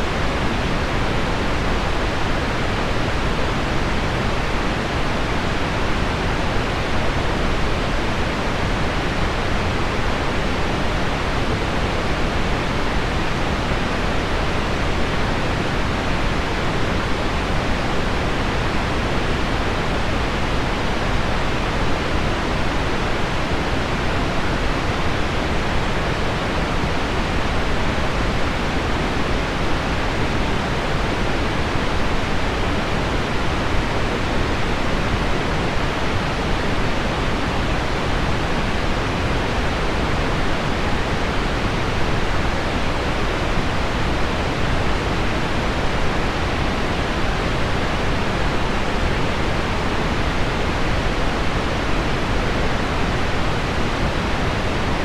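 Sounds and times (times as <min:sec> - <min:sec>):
pink noise: 0:00.0 - 0:55.0.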